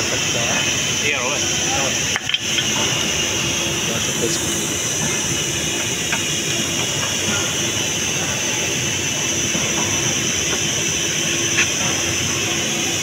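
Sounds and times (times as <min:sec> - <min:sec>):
workshop hum and hiss: 0:00.0 - 0:13.0.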